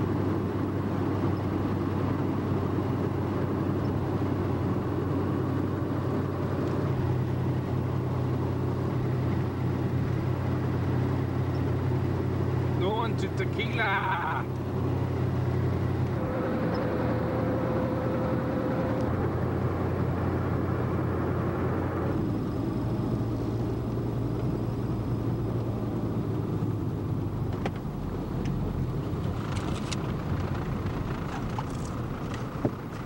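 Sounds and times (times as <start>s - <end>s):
car engine and tyre drone: 0.0s - 33.0s.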